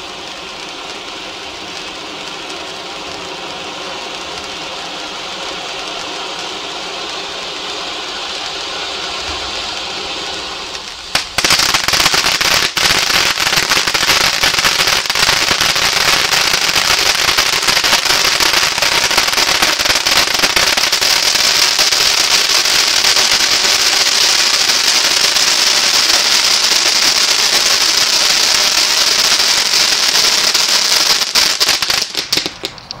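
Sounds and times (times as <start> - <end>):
firework crackling: 0.0 - 33.0
firework fountain hissing: 0.0 - 33.0.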